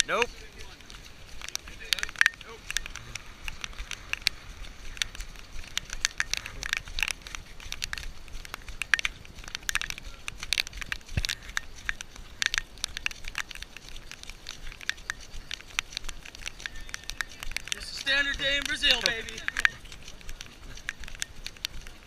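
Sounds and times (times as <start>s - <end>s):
crackling and tapping clicks: 0.0s - 22.0s.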